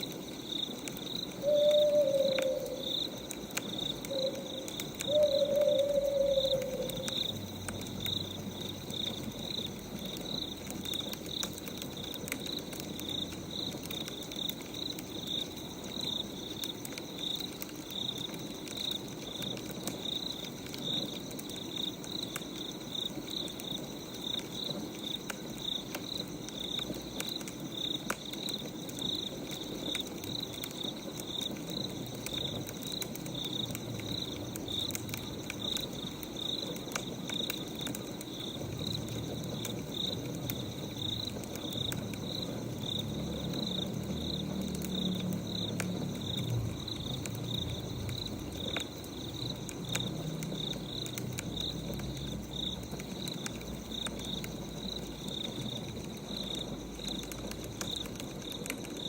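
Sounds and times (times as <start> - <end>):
crickets chirping: 0.0 - 59.0
firewood crackling: 0.0 - 59.0.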